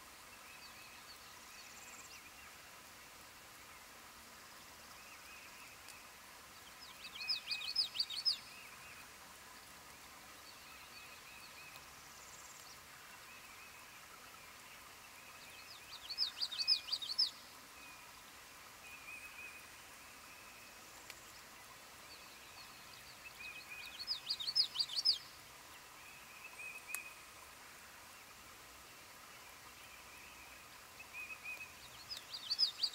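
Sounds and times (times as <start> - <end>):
soft bird calls: 0.1 - 32.9
bird song: 0.2 - 2.6, 4.8 - 9.1, 9.9 - 18.2, 18.8 - 27.4, 28.1 - 32.9.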